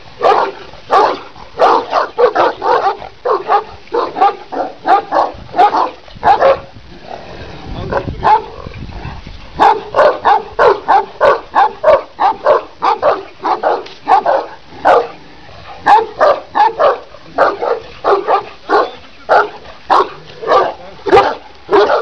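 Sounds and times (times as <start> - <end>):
dog barking loudly: 0.2 - 6.7, 7.9 - 8.7, 9.6 - 15.2, 15.8 - 22.0.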